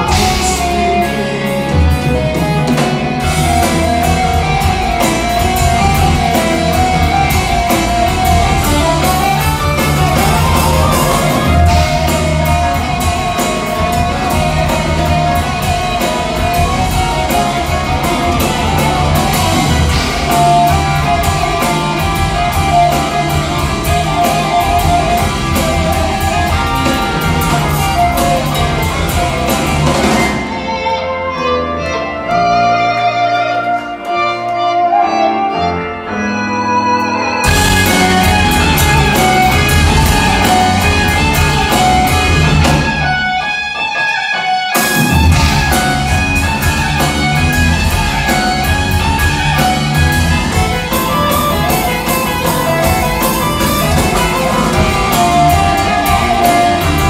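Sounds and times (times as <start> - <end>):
drum kit: 0.0 - 31.5, 36.2 - 57.0
electric guitars: 0.0 - 57.0
keyboards: 0.0 - 57.0.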